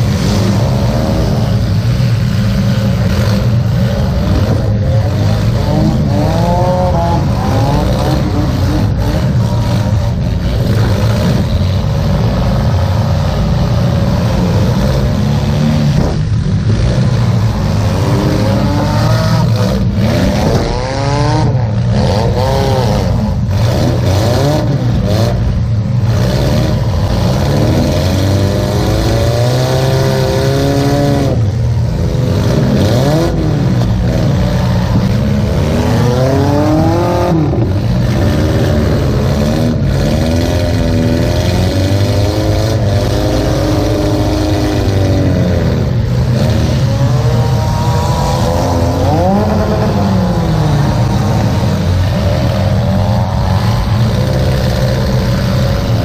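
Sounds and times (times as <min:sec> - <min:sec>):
car engine revving: 0:00.0 - 0:56.0
steady low drone: 0:00.0 - 0:56.0.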